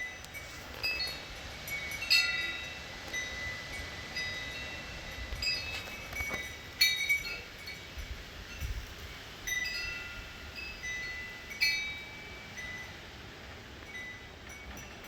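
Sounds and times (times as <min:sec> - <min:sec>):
metal wind chimes ringing: 0:00.0 - 0:13.2, 0:13.8 - 0:15.0
wind rumbling on microphone: 0:00.0 - 0:15.0.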